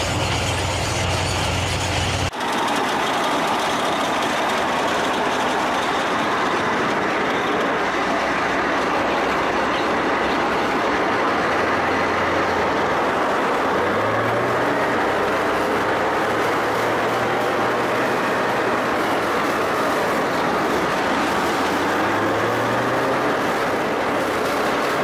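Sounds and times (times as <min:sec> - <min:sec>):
diesel engine running: 0:00.0 - 0:25.0
steel tracks clattering: 0:00.0 - 0:25.0.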